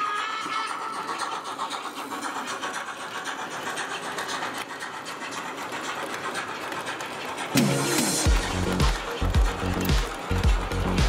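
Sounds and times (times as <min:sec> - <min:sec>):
model train running gear whirring: 0:00.0 - 0:11.0
wheels clicking over rails: 0:00.0 - 0:11.0.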